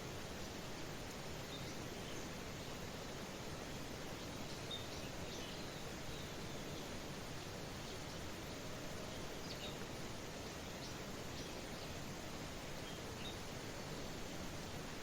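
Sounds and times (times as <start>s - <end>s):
light rain hissing: 0.0s - 15.0s.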